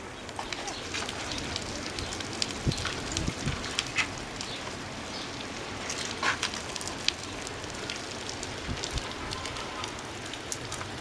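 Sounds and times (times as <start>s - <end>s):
rain hissing: 0.0s - 11.0s
raindrops ticking on surfaces: 0.0s - 11.0s.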